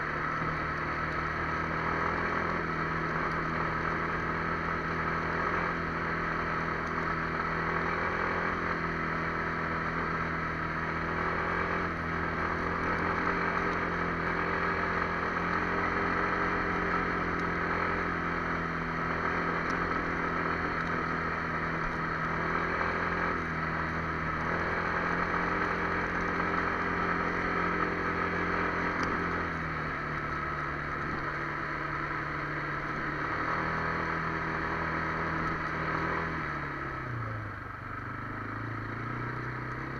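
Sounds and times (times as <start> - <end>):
atv engine running: 0.0 - 39.9
wind and road noise: 0.0 - 39.9.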